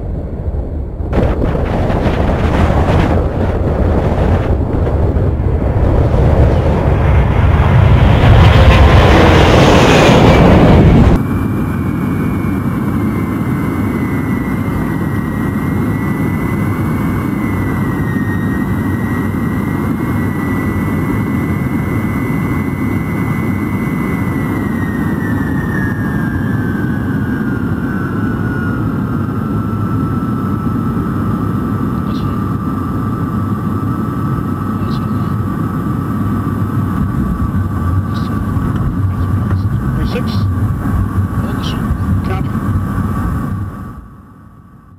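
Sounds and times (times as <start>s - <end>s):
cockpit engine roar: 0.0s - 44.9s
high engine whine: 0.0s - 44.9s
jet engines roaring at takeoff: 0.0s - 44.9s.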